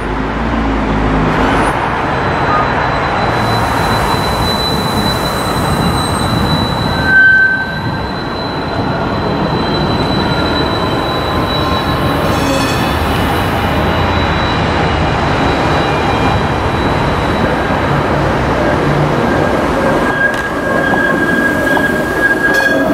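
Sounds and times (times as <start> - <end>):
tram rolling noise: 0.0 - 22.9
tram wheels squealing: 1.4 - 22.9.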